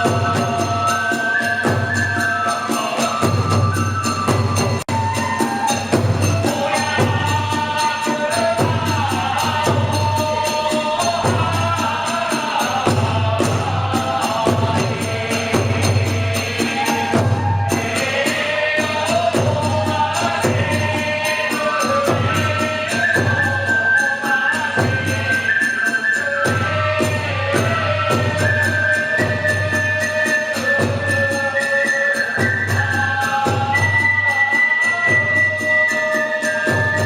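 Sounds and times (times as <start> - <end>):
hand cymbals clashing: 0.0 - 37.0.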